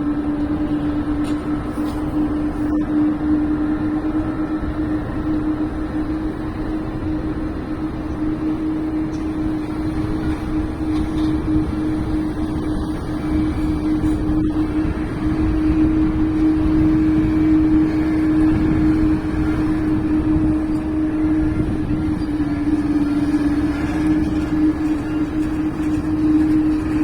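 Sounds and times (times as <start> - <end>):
jet engines droning: 0.0 - 27.0.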